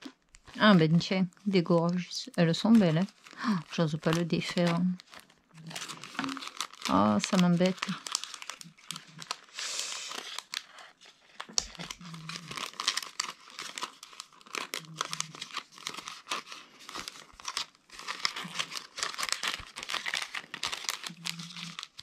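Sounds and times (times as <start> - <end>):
plastic packaging and paper crinkling: 0.0 - 22.0.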